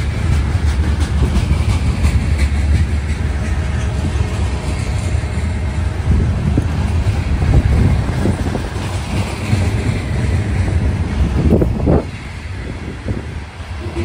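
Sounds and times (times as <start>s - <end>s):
train wheels rumbling on rail: 0.0s - 14.0s
wheels clacking over rail joints: 0.0s - 14.0s.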